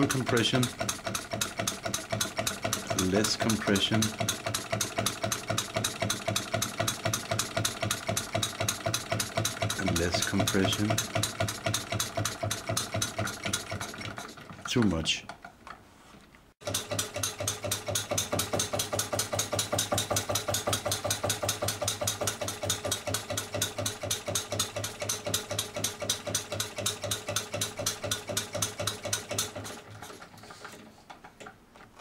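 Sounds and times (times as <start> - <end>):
model diesel engine running: 0.0 - 14.2, 16.6 - 30.7.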